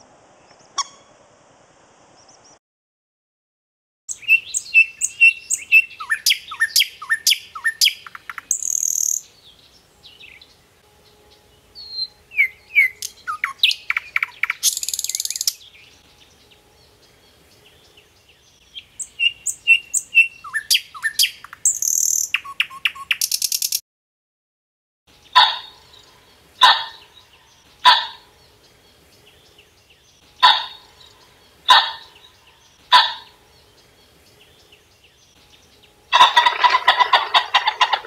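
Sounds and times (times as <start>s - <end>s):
nightingale singing: 4.1s - 23.8s, 25.1s - 38.0s.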